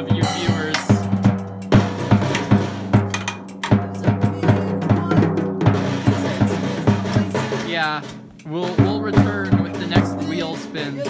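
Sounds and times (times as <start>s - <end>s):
drum kit banged with sticks: 0.0s - 11.0s.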